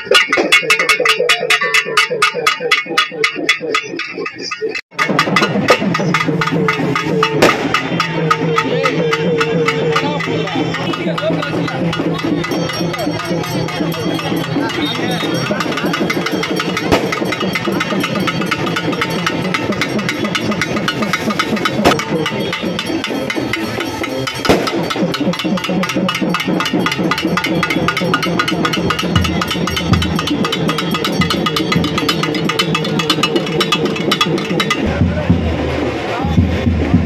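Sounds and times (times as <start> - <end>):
crowd voices: 0.0 - 37.0
rapid drumming: 0.0 - 37.0.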